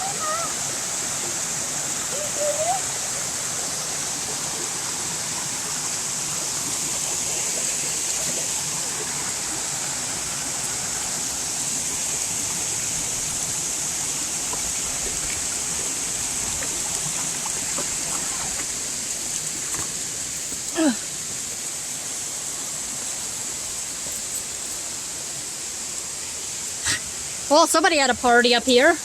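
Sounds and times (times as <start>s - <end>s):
stream and waterfall rushing: 0.0s - 29.0s.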